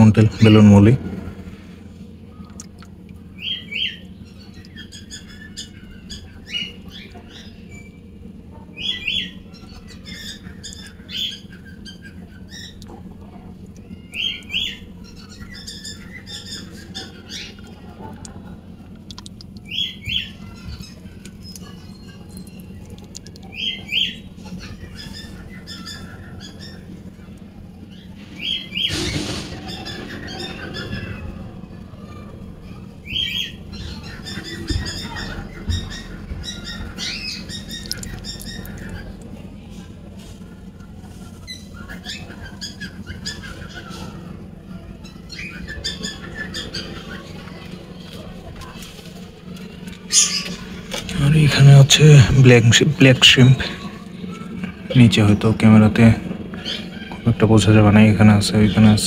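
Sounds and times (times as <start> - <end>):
steady low hum: 0.0 - 59.0
faint bird chirps: 0.2 - 59.0
bird squawking call: 3.2 - 48.8, 49.4 - 59.0.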